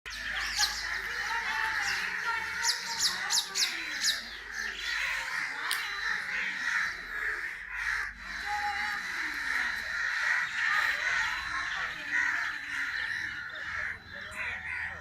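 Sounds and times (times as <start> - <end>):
crows calling: 0.1 - 15.0.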